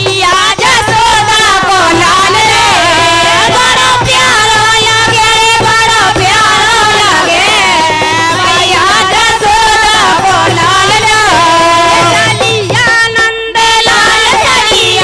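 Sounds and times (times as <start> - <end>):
women singing a devotional folk song: 0.0 - 15.0.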